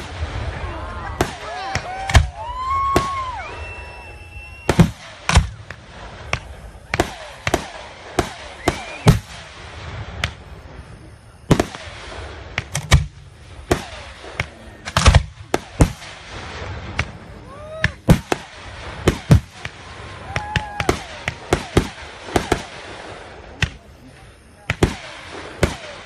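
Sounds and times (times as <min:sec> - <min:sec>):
firework booms and cracks: 0:00.0 - 0:26.0.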